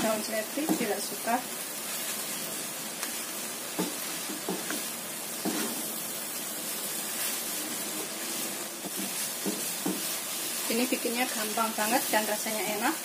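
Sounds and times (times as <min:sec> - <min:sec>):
noodles sizzling in a wok: 0:00.0 - 0:13.0.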